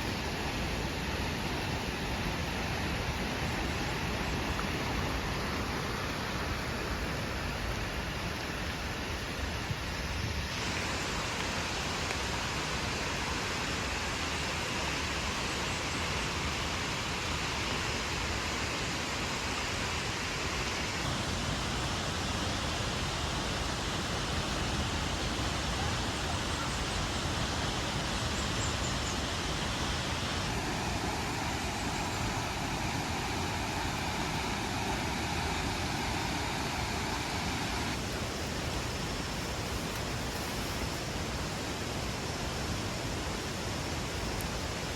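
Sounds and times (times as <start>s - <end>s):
rushing hiss of falling water: 0.0s - 44.9s.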